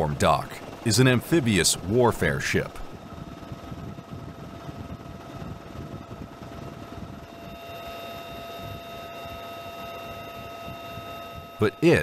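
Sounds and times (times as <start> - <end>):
faint engine whine: 0.0 - 12.0
tiltrotor aircraft rumble: 0.0 - 12.0.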